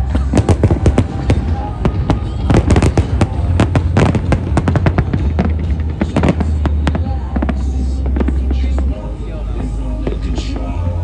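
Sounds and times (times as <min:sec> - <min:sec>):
fireworks bangs and crackles: 0:00.0 - 0:11.0
steady low rumble: 0:00.0 - 0:11.0.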